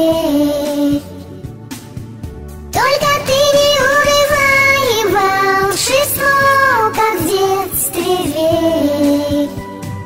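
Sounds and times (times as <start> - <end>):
pop backing music: 0.0 - 10.0.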